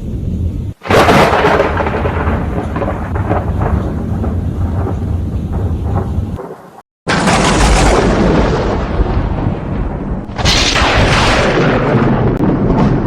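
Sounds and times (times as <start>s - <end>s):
sharp thunderclap: 0.0s - 13.0s
thunder rumbling: 0.0s - 13.0s.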